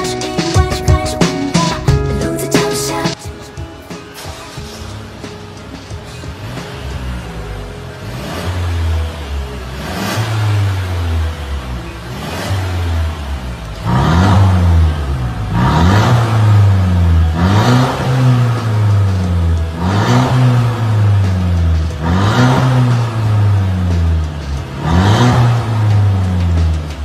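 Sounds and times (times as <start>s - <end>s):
car engine idling: 4.2s - 27.0s
car engine revving: 4.4s - 27.0s.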